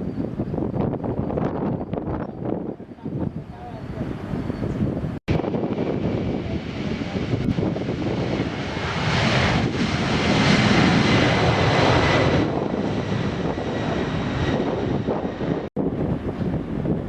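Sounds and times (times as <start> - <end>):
jet airliner engines roaring: 0.0 - 17.0.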